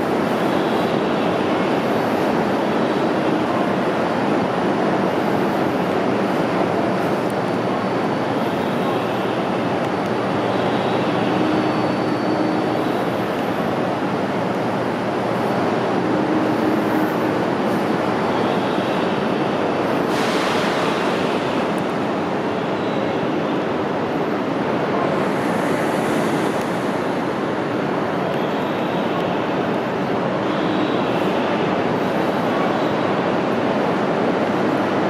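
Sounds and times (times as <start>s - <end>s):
train rushing noise: 0.0s - 35.0s.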